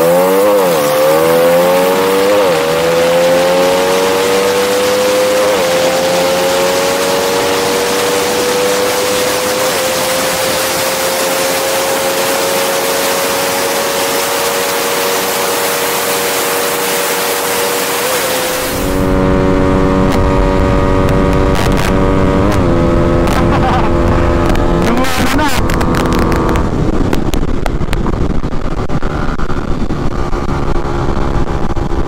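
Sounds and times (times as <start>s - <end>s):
motorcycle engine at high revs: 0.0s - 32.0s
wind noise on microphone: 0.0s - 32.0s.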